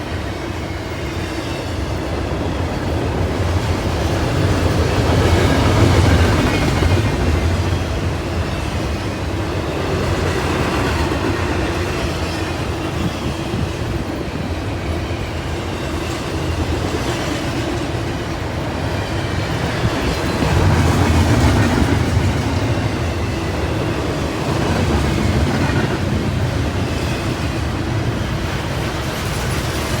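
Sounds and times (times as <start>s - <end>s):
freight train rumble: 0.0s - 30.0s.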